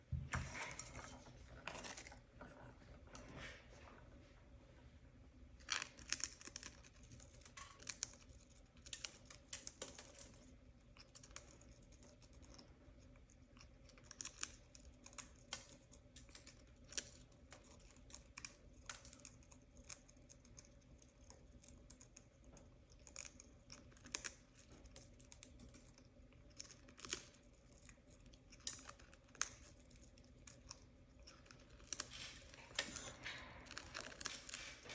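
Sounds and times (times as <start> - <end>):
faint steady hum: 0.0 - 34.9
parrot crunching bread: 0.3 - 4.1, 5.4 - 34.9.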